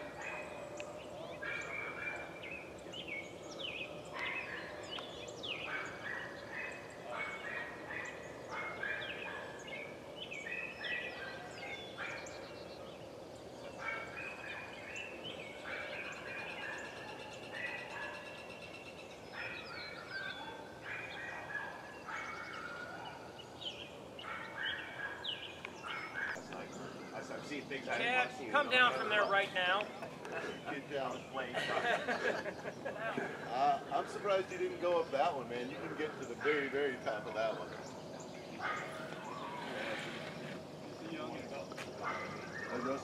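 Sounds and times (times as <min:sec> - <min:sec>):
birds chirping and warbling: 0:00.0 - 0:43.0.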